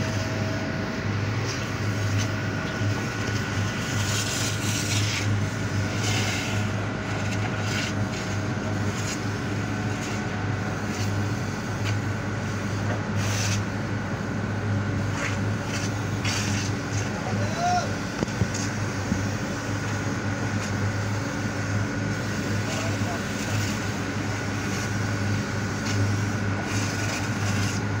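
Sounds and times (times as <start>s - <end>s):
truck engine and suction pump: 0.0s - 28.0s.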